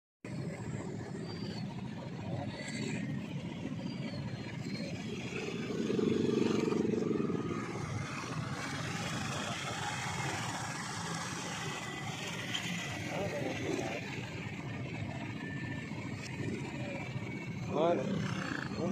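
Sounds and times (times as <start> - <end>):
truck engines: 0.2 - 18.9
motorcycle engines: 0.3 - 18.9.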